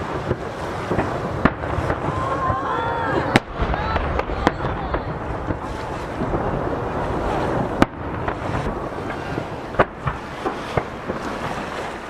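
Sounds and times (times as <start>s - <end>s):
fireworks bangs echoing: 0.0s - 12.0s
sea waves against a jetty: 0.0s - 12.0s
wind buffeting microphone: 0.0s - 12.0s.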